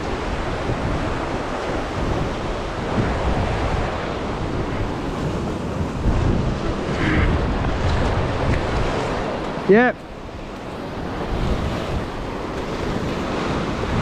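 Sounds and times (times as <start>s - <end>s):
ocean surf washing over rocks: 0.0s - 14.0s
wind buffeting microphone: 0.0s - 14.0s.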